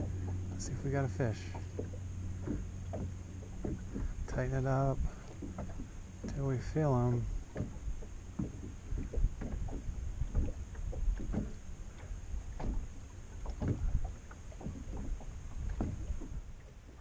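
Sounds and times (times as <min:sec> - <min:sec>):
waves slapping against boat hull: 0:00.0 - 0:17.0
wind rumble on microphone: 0:00.0 - 0:17.0.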